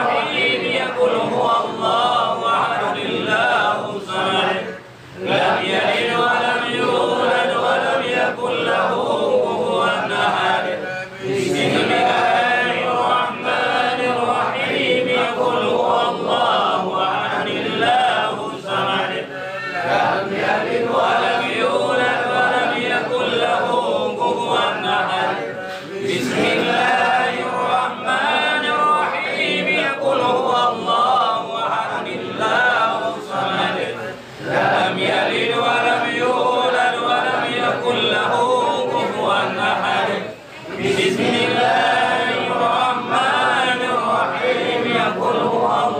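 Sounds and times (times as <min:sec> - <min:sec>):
men chanting in unison: 0:00.0 - 0:45.9.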